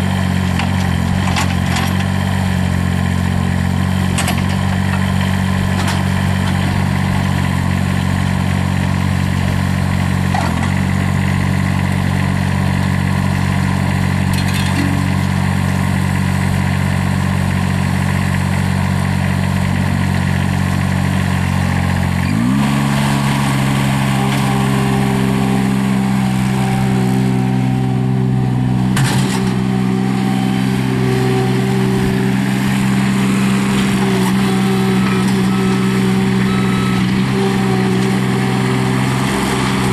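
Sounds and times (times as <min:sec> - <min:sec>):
diesel engine running and revving: 0:00.0 - 0:39.9.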